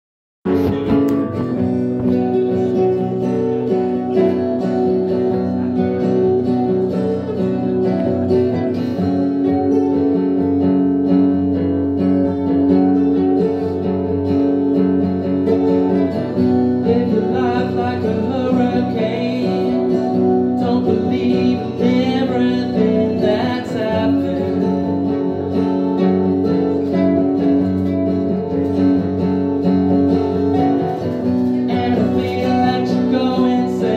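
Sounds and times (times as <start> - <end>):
acoustic guitars strumming: 0.4 - 33.9.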